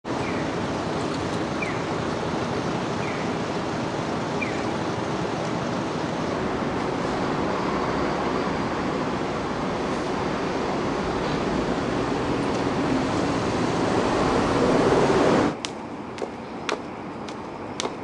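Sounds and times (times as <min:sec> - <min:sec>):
distant traffic roar: 0:00.0 - 0:18.0.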